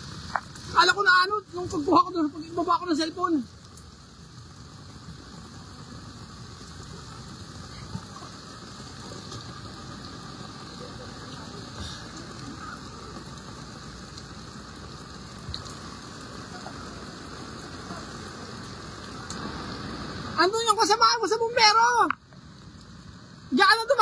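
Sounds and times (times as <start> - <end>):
flood water rushing: 0.0 - 24.0.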